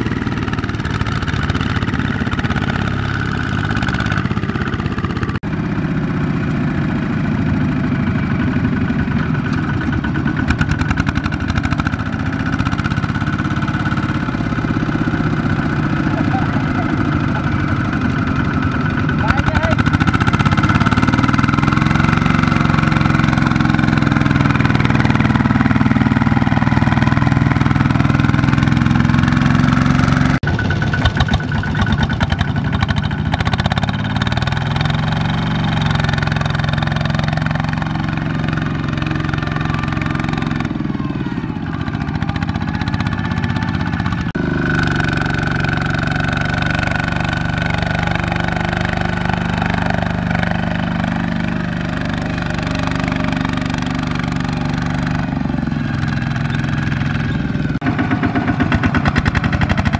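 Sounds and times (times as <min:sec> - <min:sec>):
diesel tractor engines straining: 0:00.0 - 0:59.9.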